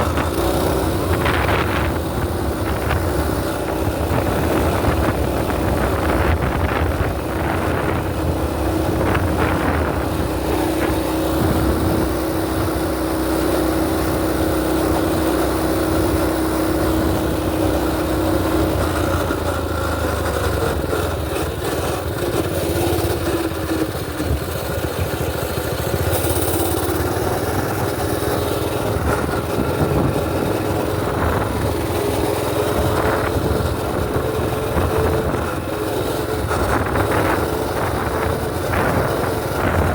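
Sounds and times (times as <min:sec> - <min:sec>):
wind on microphone: 0:00.0 - 0:19.7, 0:25.9 - 0:39.9
small engine running: 0:00.0 - 0:39.9.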